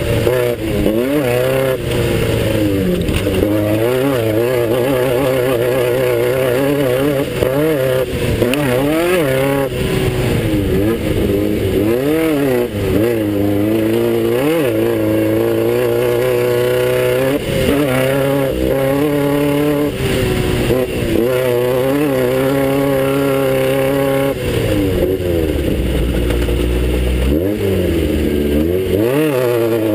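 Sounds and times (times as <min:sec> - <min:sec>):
race car engine revving: 0:00.0 - 0:29.9.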